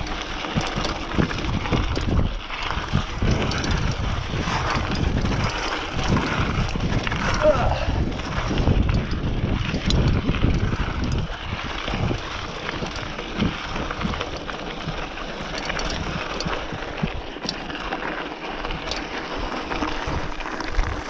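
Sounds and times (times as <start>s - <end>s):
wind buffeting microphone: 0.0s - 17.5s
bike clicks and rattles: 0.0s - 21.0s
bike tyres rolling on gravel: 0.0s - 21.0s.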